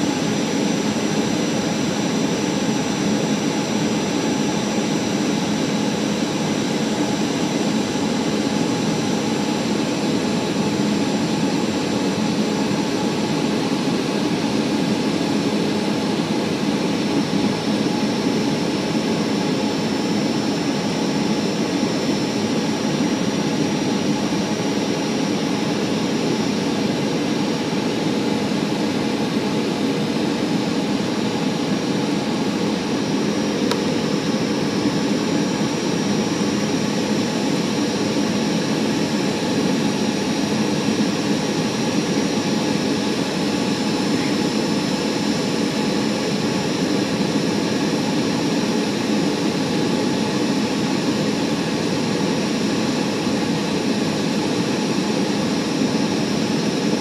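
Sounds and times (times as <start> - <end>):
airliner engine and airflow rush: 0.0 - 57.0.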